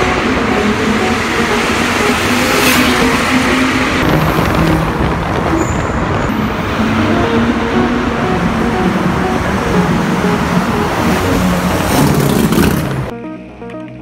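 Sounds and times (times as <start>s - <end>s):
car engines in tunnel: 0.0s - 13.1s.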